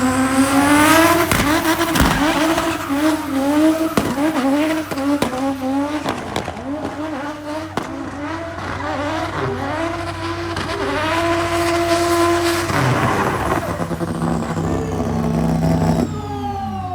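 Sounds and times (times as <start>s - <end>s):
race car engine revving: 0.0s - 16.9s.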